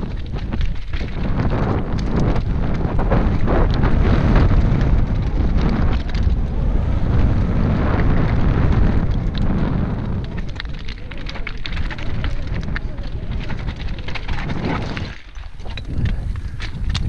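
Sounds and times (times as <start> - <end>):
bike rattling: 0.0 - 17.0
tyres crunching over stones: 0.0 - 17.0
wind buffeting microphone: 0.0 - 17.0.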